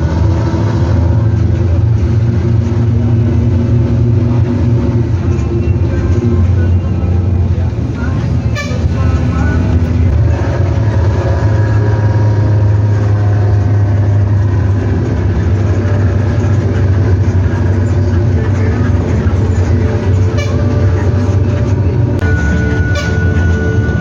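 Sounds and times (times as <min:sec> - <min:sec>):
bus diesel engine droning: 0:00.0 - 0:24.0.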